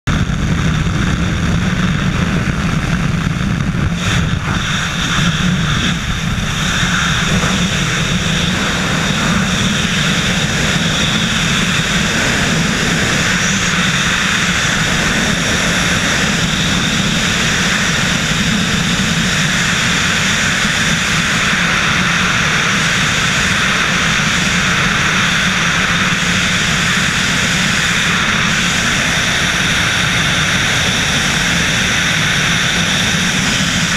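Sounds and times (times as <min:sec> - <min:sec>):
propeller plane engine: 0:00.0 - 0:33.9
wind rushing over camera: 0:00.1 - 0:33.9.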